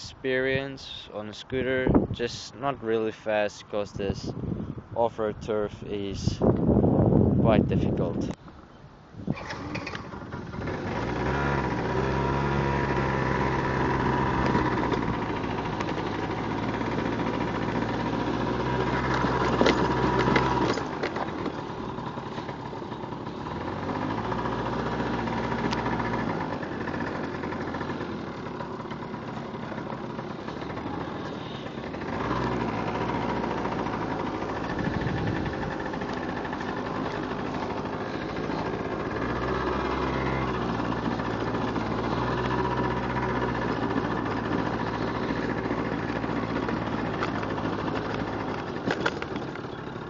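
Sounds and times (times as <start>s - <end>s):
scooter engine running: 9.3s - 50.0s.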